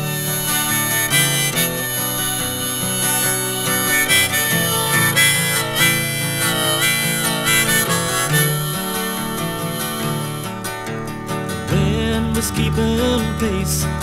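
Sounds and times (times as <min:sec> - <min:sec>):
harmonica melody: 0:00.0 - 0:12.6
strummed acoustic guitar: 0:00.0 - 0:14.0.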